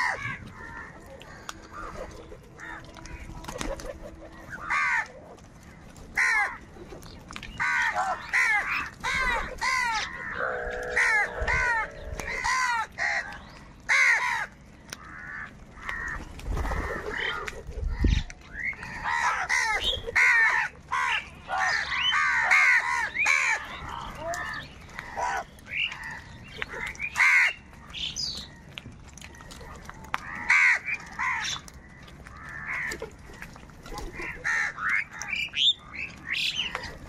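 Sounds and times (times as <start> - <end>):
crows cawing: 0.0 - 6.7, 7.6 - 29.5, 30.2 - 37.0.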